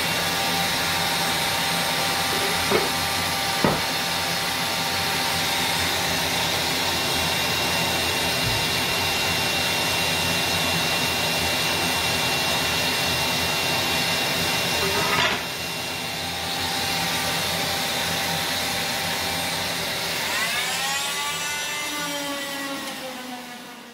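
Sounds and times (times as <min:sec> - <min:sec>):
electric motor whine: 0:00.0 - 0:23.9.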